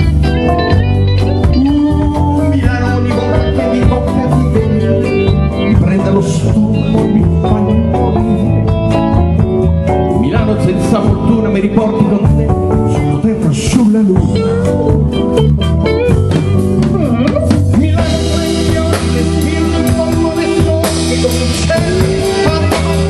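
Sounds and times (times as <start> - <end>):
drum beat: 0.0 - 23.0
electric guitar: 0.0 - 23.0
keyboards: 0.0 - 23.0.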